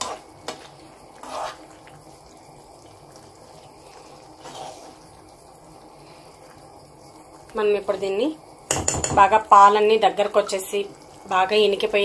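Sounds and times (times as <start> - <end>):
milk bubbling in pan: 0.0 - 12.0.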